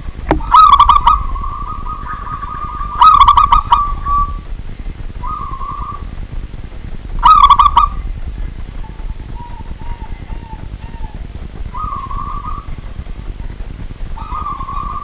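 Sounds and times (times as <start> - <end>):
dove cooing: 0.0 - 6.2, 7.1 - 15.0.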